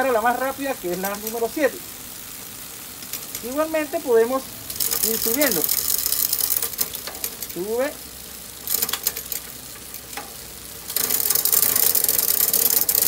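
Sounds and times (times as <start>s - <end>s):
bike chain whirring over gears: 0.0s - 13.0s.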